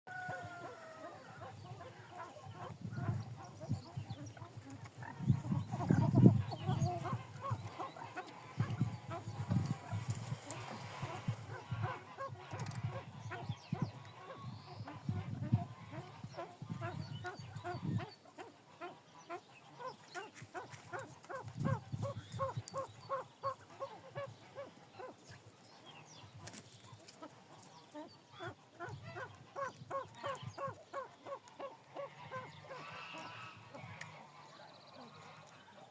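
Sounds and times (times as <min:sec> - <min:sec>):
pheasants calling: 0:00.1 - 0:35.9.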